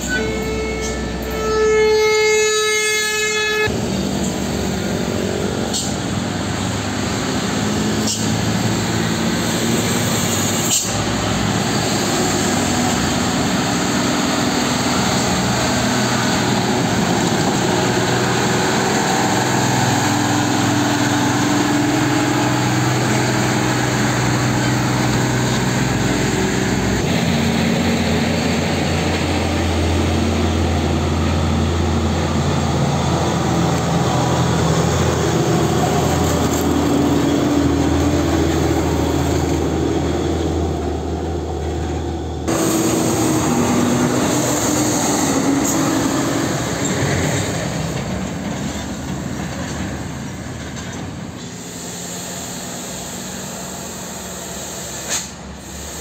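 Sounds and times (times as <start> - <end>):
diesel truck engines under load: 0.0 - 1.8, 3.6 - 56.0
tyre and road noise: 0.0 - 56.0.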